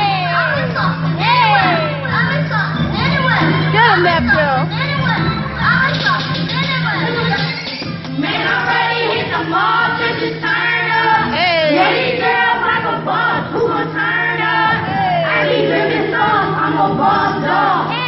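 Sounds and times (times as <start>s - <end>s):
backing track over pa: 0.0s - 18.0s
crowd voices: 0.0s - 18.0s.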